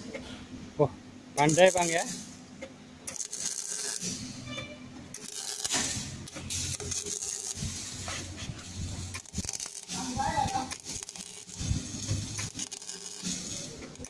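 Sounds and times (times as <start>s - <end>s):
low electrical hum: 0.0s - 14.0s
welding arc crackling: 1.4s - 2.4s, 3.0s - 14.0s.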